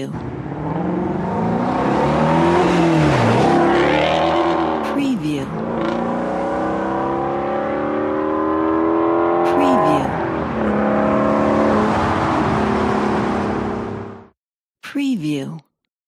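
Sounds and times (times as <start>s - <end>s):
car engine accelerating: 0.2s - 14.3s.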